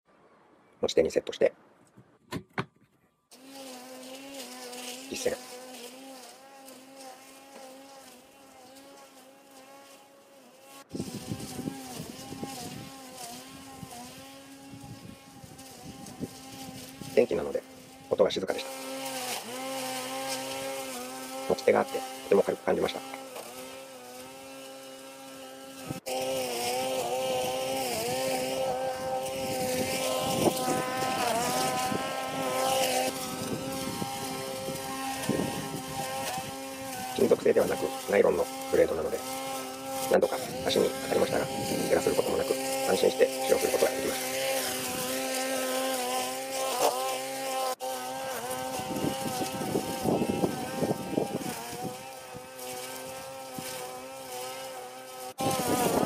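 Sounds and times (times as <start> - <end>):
grass trimmer motor hum: 3.3 - 56.0.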